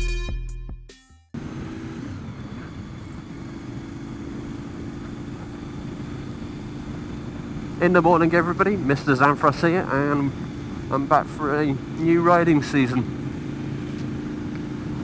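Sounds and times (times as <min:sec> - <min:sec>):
motorcycle engine rumble: 0:01.4 - 0:15.0.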